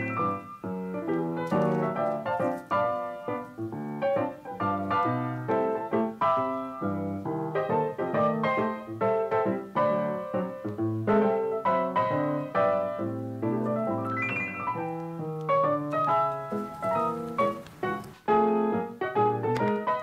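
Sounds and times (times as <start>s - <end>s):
solo piano melody: 0.0s - 20.0s.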